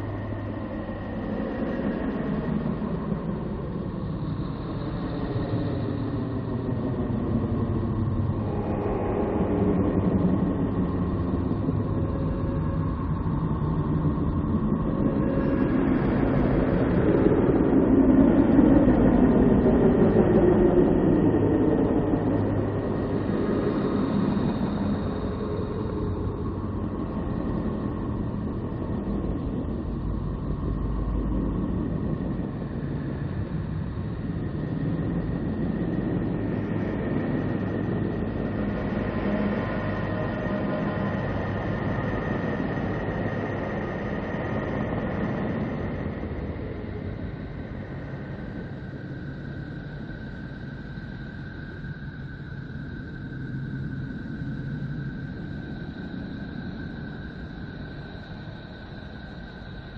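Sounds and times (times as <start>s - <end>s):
rumbling drone with wavering tones: 0.0s - 59.9s.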